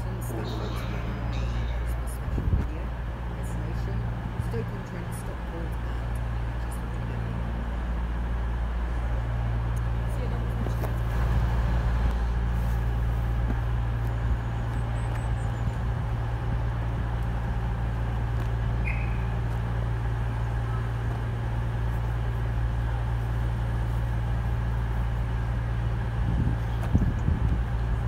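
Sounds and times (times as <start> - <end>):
diesel train engine idling: 0.0 - 28.0.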